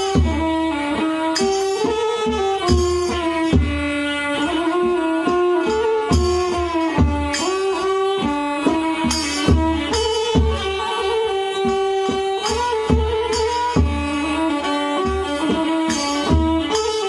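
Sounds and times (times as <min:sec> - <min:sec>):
bowed fiddle melody: 0:00.0 - 0:17.0
low hand-drum beats: 0:00.0 - 0:17.0
small hand cymbals: 0:00.0 - 0:17.0.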